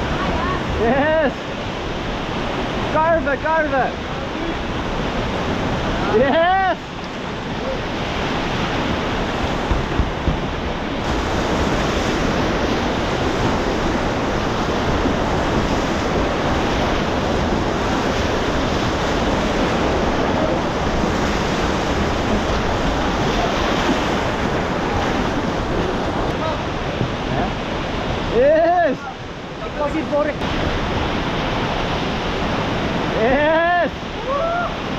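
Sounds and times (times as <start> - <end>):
whitewater rapids rushing: 0.0 - 34.9.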